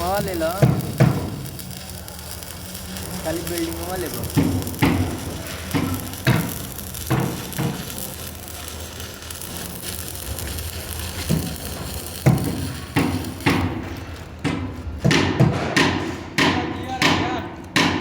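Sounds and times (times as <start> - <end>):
welding arc crackling: 0.0 - 15.4.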